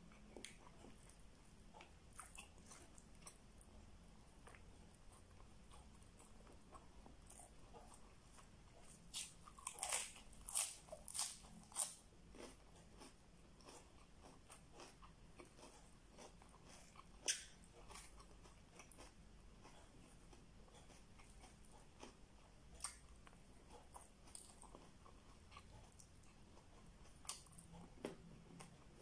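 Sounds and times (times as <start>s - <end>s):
chewing and biting: 0.1s - 3.8s, 4.4s - 29.0s.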